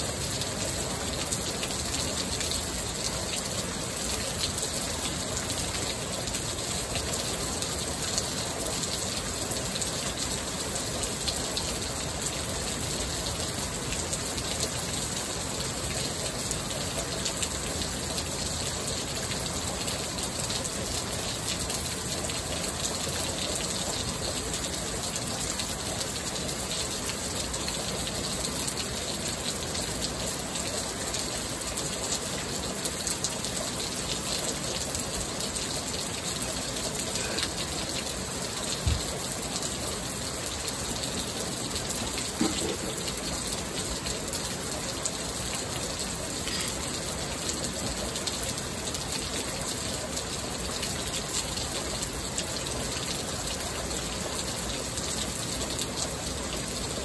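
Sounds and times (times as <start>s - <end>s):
heavy rain patter: 0.0s - 57.0s
water pouring off roof: 0.0s - 57.0s.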